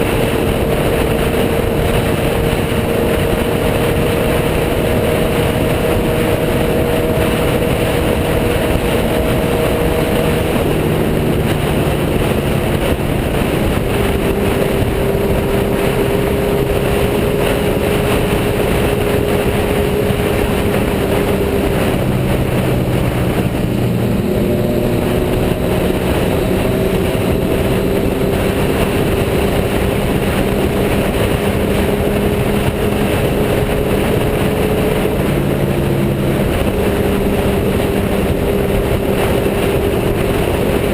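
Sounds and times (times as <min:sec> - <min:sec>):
sport bike engine running: 0:00.0 - 0:40.9
wind rush: 0:00.0 - 0:40.9.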